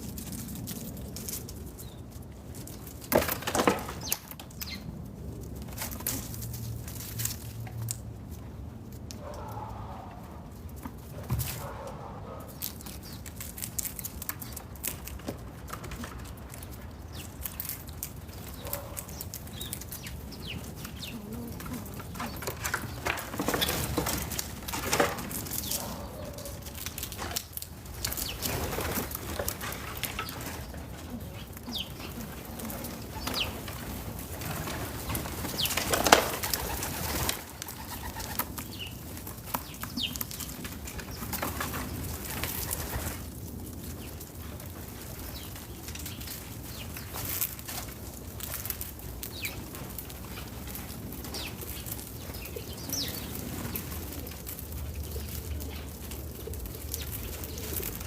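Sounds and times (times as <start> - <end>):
clicks and rustles: 0.0 - 9.5, 10.5 - 58.0.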